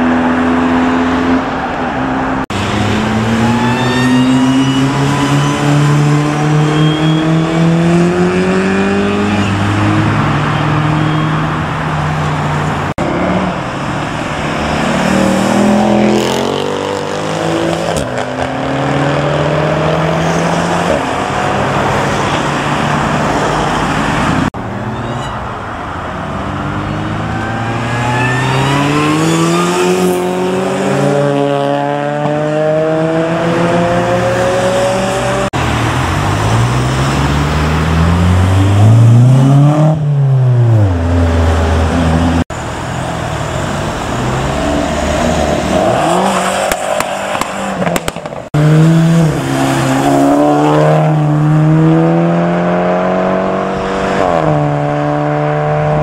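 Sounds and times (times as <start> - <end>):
cars accelerating hard: 0.0 - 56.0
tyre and traffic noise: 0.0 - 56.0.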